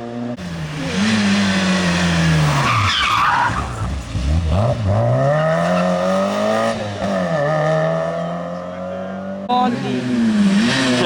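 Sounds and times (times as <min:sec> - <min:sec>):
rally car engine revving: 0:00.0 - 0:11.0
tyres skidding: 0:00.3 - 0:11.0.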